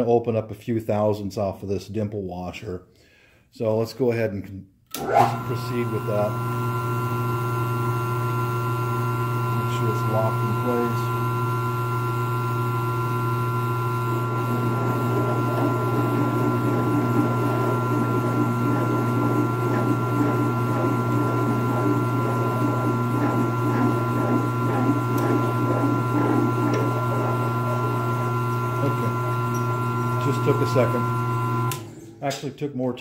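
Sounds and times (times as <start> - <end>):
drill bit grinding metal: 5.0 - 31.8
milling machine motor whining: 5.0 - 32.2.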